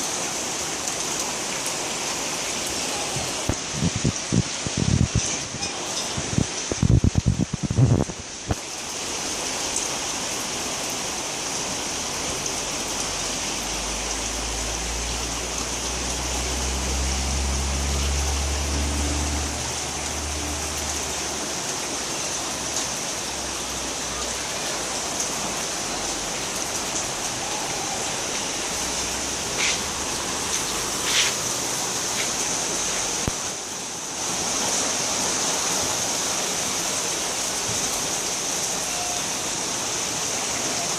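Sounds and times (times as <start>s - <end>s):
floodwater rushing: 0.0s - 40.9s.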